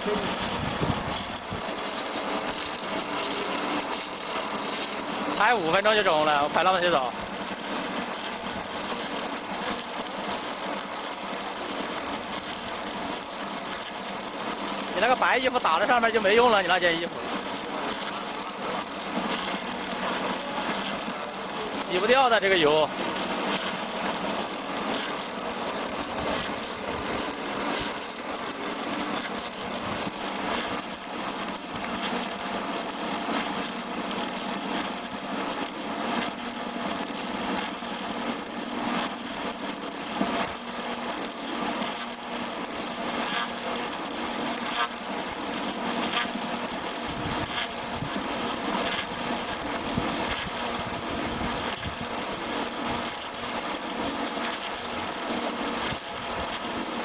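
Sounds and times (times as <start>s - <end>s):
wood lathe cutting a log: 0.0s - 57.0s.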